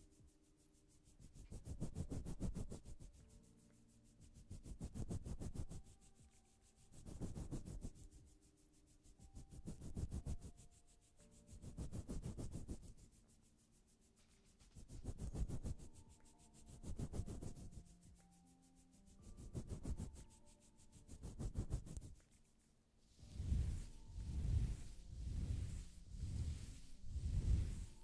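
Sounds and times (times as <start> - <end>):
rhythmic scraping strokes: 0.0 - 28.0.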